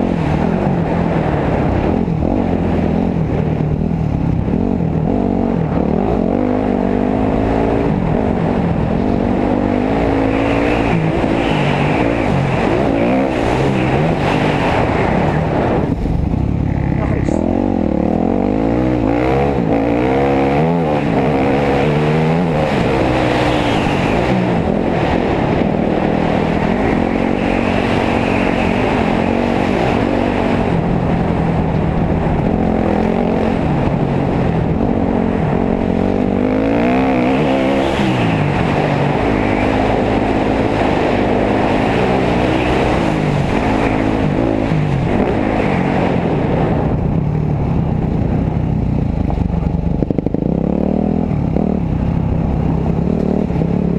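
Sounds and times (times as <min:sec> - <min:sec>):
dirt bike engine revving: 0:00.0 - 0:15.9, 0:16.6 - 0:47.0.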